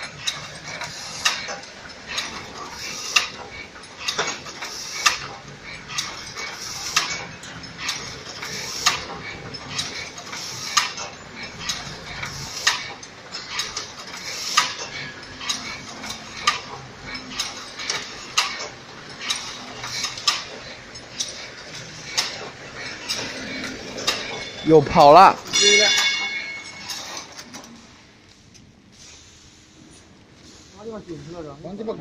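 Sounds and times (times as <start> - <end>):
wire mesh machine running: 0.0 - 27.7
metallic clacking: 0.0 - 28.7.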